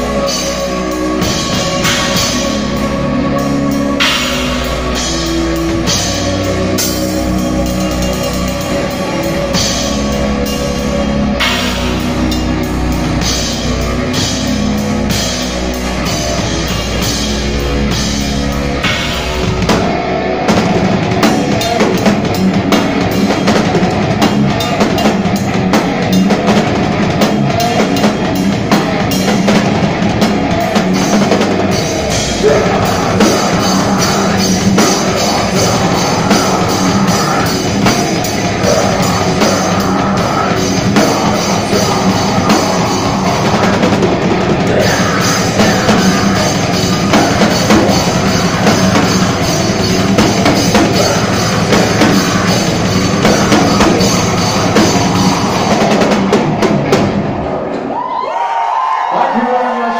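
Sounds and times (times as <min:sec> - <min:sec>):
drum kit: 0:00.0 - 0:59.1
heavy metal band playing: 0:00.0 - 0:59.9.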